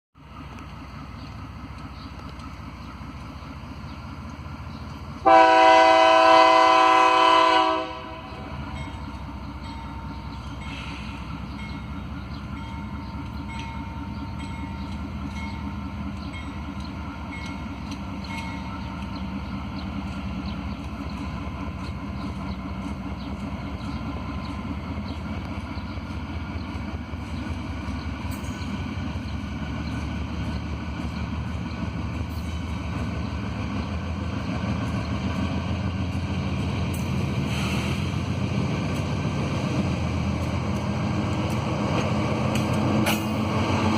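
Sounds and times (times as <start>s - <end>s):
locomotive engine drone: 0.2s - 43.9s.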